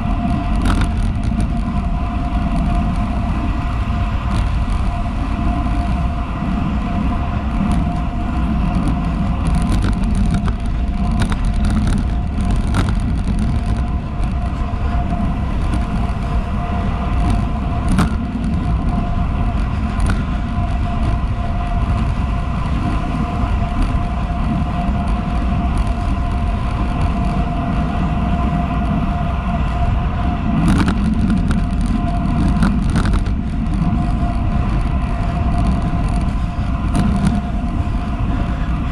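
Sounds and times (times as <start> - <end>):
bike clicks and rattles: 0.0 - 38.9
bike tyres rolling on asphalt: 0.0 - 38.9
steady whine: 0.0 - 38.9
wind rushing over microphone: 0.0 - 38.9.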